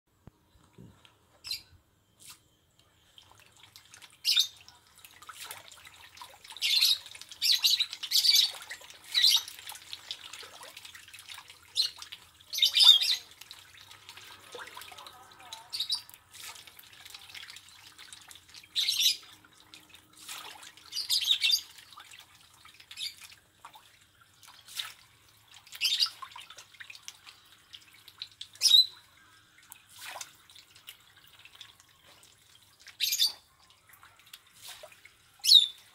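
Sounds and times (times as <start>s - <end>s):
fish splashing at water surface: 3.2s - 35.9s.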